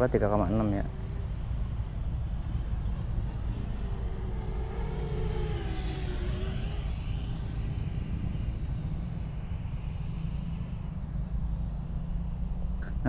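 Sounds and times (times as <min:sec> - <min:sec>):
drone motors whining: 0:00.0 - 0:13.0
steady low rumble: 0:00.0 - 0:13.0.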